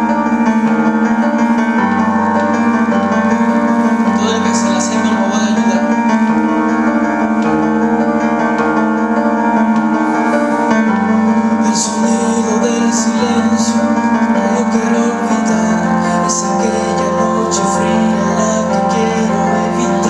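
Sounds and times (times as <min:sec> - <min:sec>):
keyboard chords: 0:00.0 - 0:20.0.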